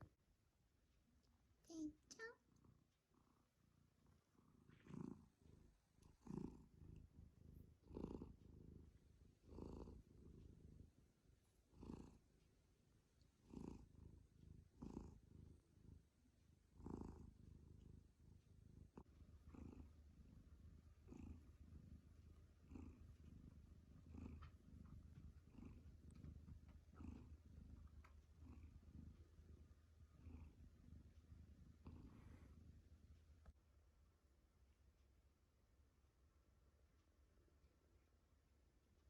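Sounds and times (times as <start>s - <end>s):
cat purring: 0.0s - 33.7s.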